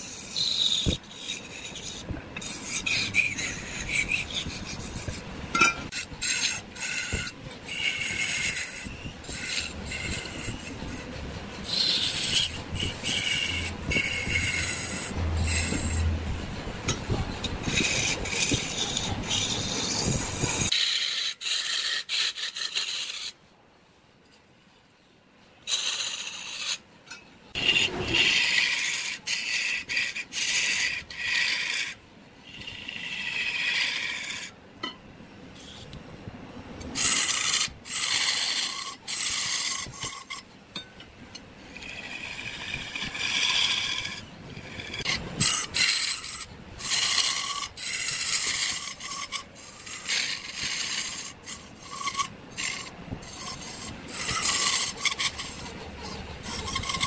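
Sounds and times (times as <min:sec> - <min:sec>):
chisel scraping wood on lathe: 0:00.0 - 0:23.4, 0:25.7 - 0:34.6, 0:36.9 - 0:57.0.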